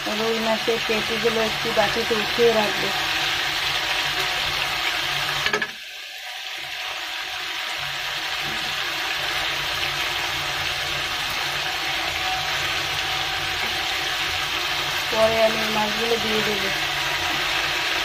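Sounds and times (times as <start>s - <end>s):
fish sizzling in a wok: 0.0s - 18.0s.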